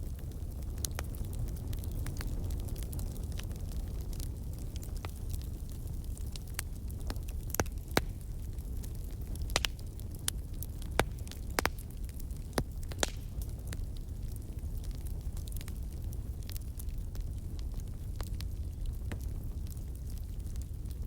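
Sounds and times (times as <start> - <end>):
fire crackling: 0.0 - 21.0.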